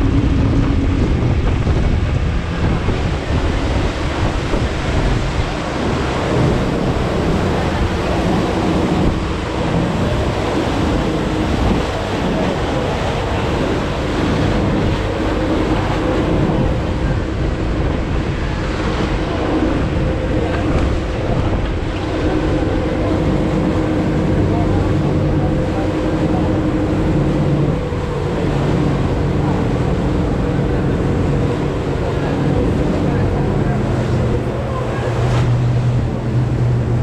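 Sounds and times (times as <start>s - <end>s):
boat engines humming: 0.0s - 37.0s
churning wake rushing: 0.0s - 37.0s
wind buffeting microphone: 0.0s - 37.0s.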